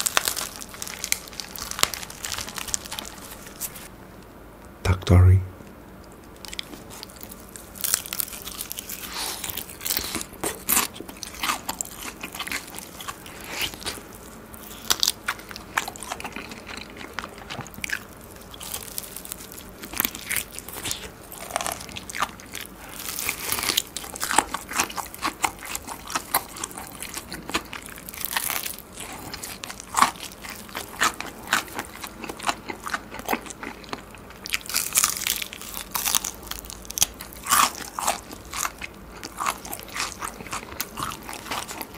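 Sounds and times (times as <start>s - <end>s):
crunching fried chicken skin: 0.0s - 3.9s, 6.4s - 41.9s
chewing: 6.1s - 41.9s.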